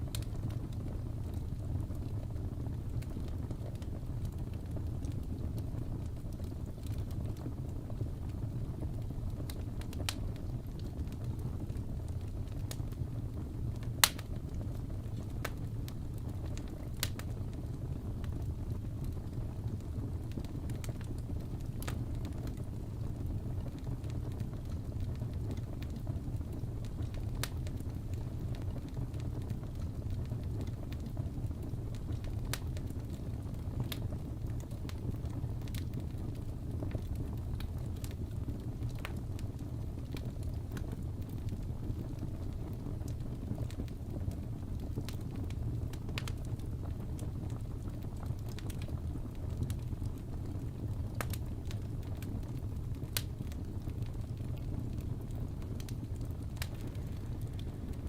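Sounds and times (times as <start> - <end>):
burning wood crackling and popping: 0.0 - 58.0
flames rumbling: 0.0 - 58.0.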